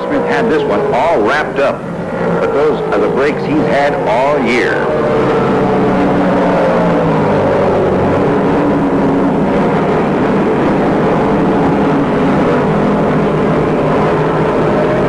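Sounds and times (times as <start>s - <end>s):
race car engines at speed: 0.0s - 15.0s.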